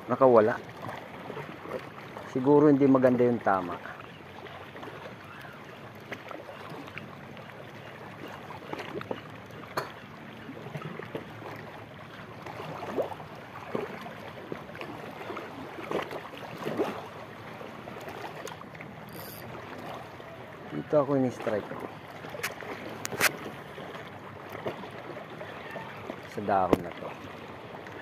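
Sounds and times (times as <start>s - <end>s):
sea water lapping on rocks: 0.3s - 28.0s.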